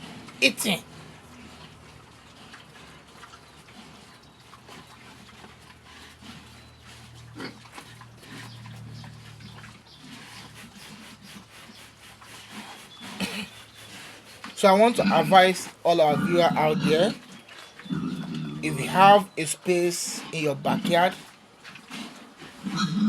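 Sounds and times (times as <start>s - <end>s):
pigs chewing and chomping: 0.0s - 23.0s.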